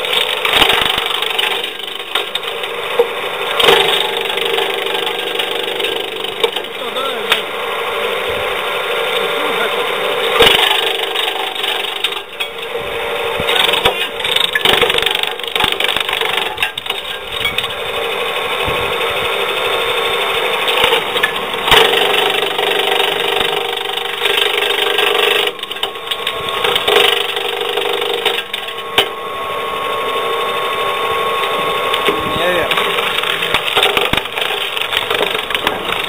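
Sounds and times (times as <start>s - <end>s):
branch chipper motor humming: 0.0s - 36.0s.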